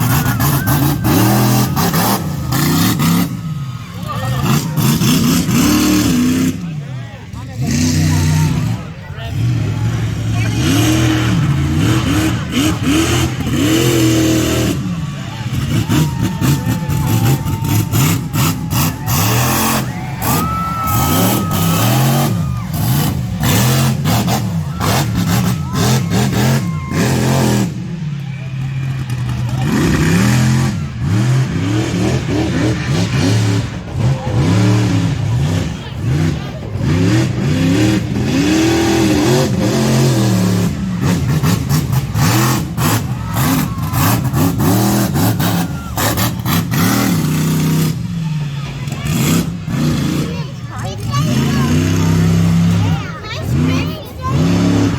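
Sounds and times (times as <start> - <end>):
truck engines revving: 0.0 - 54.9.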